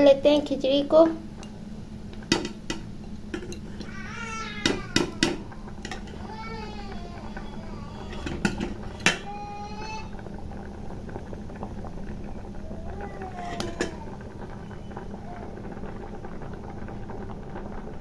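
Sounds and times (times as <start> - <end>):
pot bubbling: 0.0 - 18.0.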